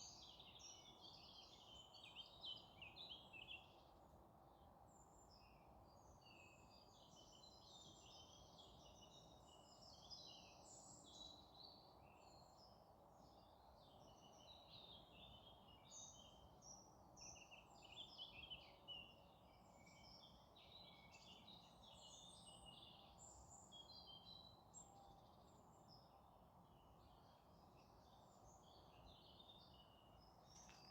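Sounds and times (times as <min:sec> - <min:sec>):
small birds chirping and trilling: 0:04.9 - 0:26.1, 0:26.7 - 0:30.9.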